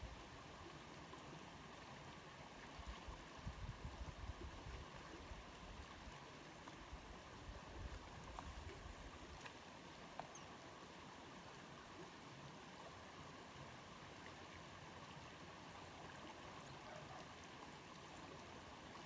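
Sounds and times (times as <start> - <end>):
flowing stream: 0.0 - 19.0.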